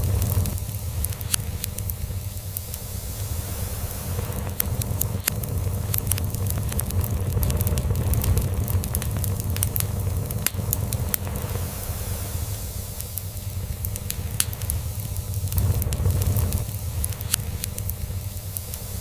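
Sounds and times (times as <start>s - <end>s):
log fire crackling and popping: 0.0s - 19.0s.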